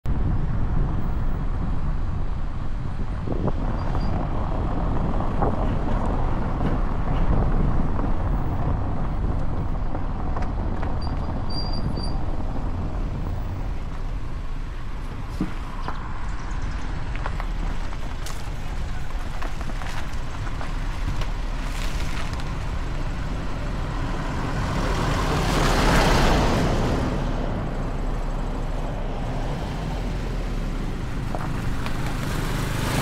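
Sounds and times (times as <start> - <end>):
wind and road noise: 0.0 - 33.0.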